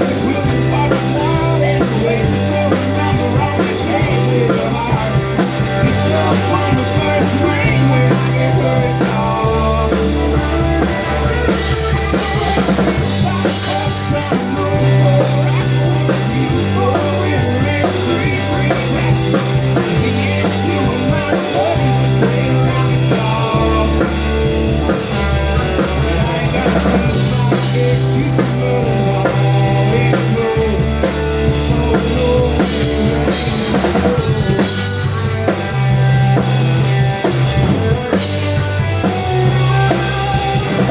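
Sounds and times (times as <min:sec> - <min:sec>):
drum kit: 0:00.0 - 0:40.9
low bass notes: 0:00.0 - 0:40.9
rock band playing: 0:00.0 - 0:40.9.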